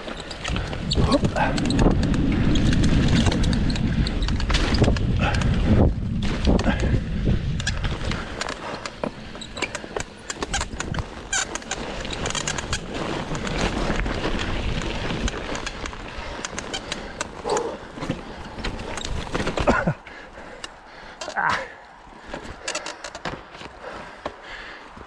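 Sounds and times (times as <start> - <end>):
bike rattling and squeaking: 0.0 - 23.7
bike tyres rumbling on dirt: 0.0 - 25.0.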